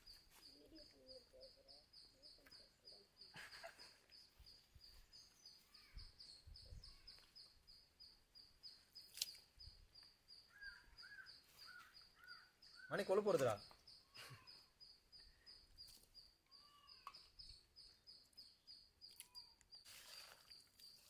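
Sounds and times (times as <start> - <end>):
faint high chirp: 0.0 - 21.0.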